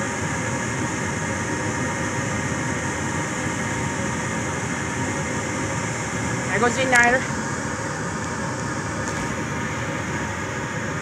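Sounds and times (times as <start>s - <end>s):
furnace fan motor running: 0.0s - 11.0s.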